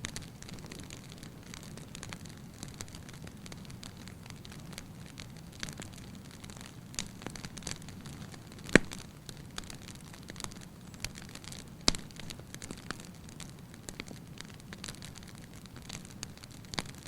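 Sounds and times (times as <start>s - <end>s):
fire crackling and snapping: 0.0s - 17.0s
loud sharp pops of fire: 0.0s - 17.0s.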